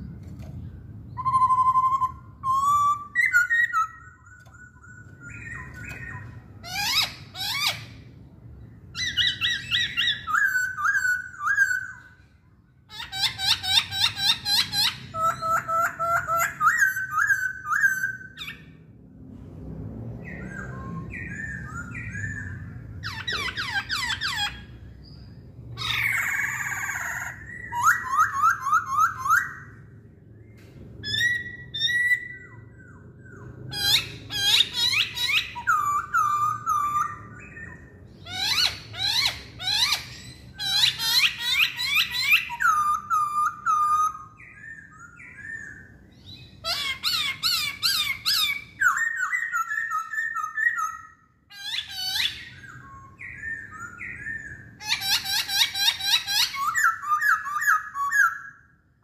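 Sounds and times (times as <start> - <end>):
bird whistling song: 0.0 - 18.8, 20.2 - 58.8.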